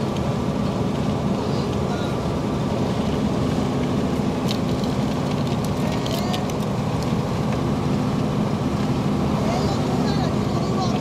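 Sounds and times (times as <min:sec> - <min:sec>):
vehicle engine hum and tyre rumble: 0:00.0 - 0:11.0.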